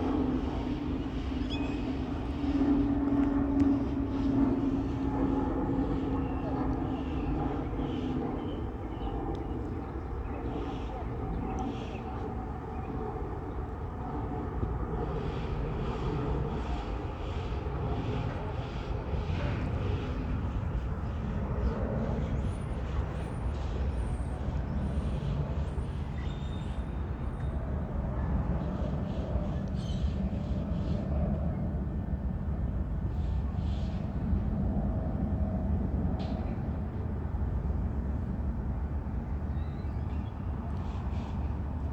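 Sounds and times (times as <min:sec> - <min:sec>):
jet engines low rumble: 0:00.0 - 0:41.9.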